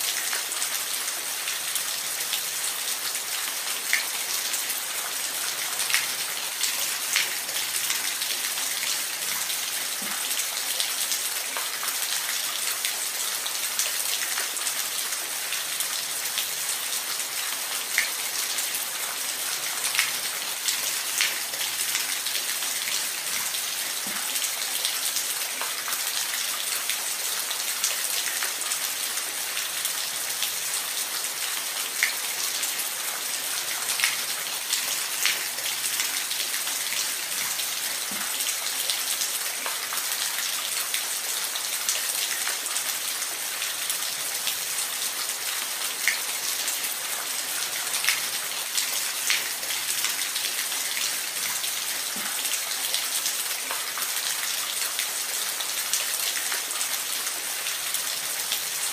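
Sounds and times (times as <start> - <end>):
individual raindrops: 0.0 - 58.9
steady rain in a forest: 0.0 - 58.9.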